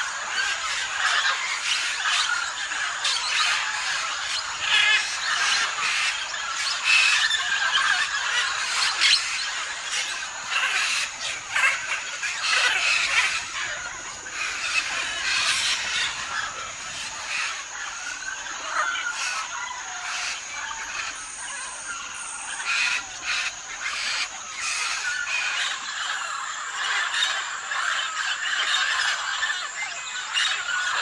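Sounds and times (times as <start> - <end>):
parrots squawking and screeching: 0.0 - 31.0.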